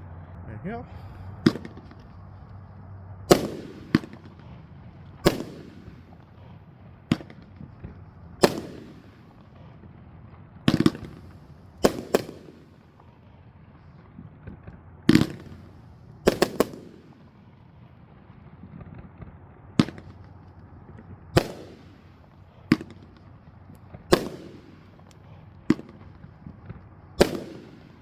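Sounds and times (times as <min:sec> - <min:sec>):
firework bangs echoing: 0:00.1 - 0:28.0
rattle of firework cracks: 0:01.2 - 0:28.0.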